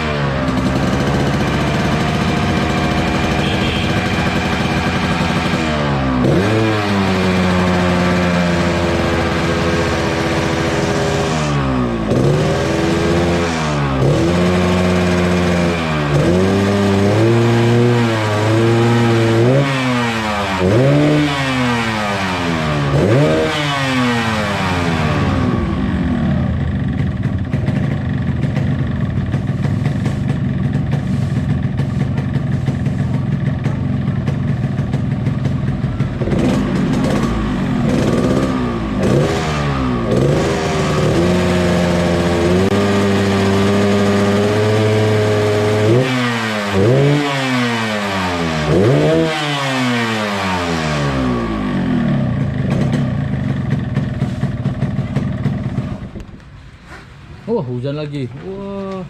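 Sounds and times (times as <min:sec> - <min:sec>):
motorcycle engine revving: 0:00.0 - 0:57.5.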